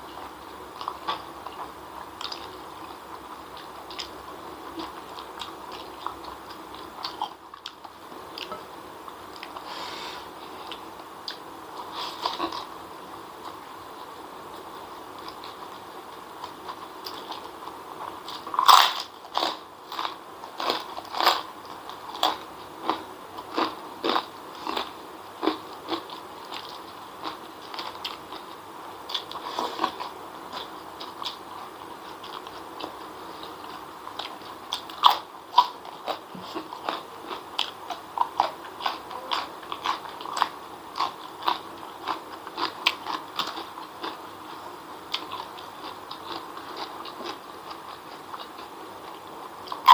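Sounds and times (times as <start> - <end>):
crunchy chewing: 0.0 - 49.9.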